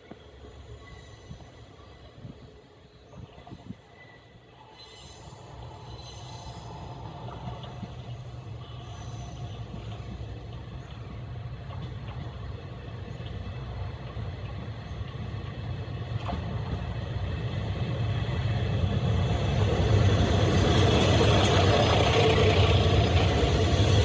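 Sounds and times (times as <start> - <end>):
diesel railcar engine rumbling: 0.0 - 24.0.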